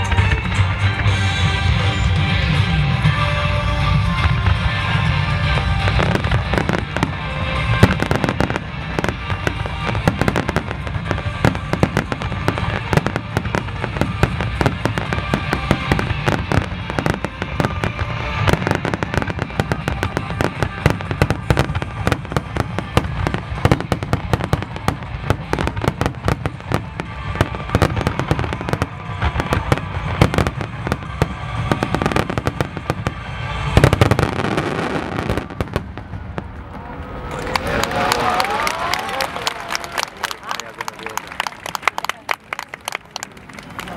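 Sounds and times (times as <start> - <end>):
fireworks bangs and crackles: 0.0 - 39.7
music playing: 0.0 - 43.9.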